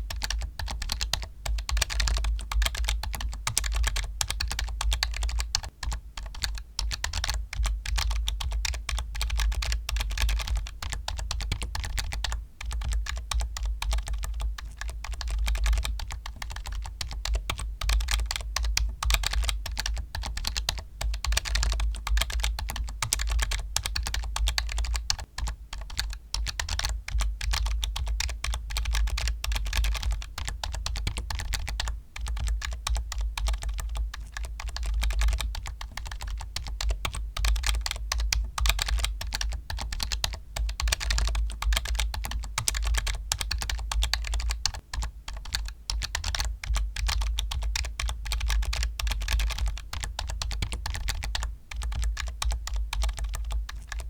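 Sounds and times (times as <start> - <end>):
fast typing on keyboard: 0.0 - 54.0.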